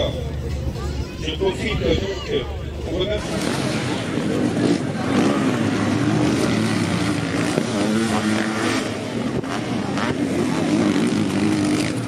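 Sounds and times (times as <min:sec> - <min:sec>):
motocross engines racing: 0:00.0 - 0:12.0.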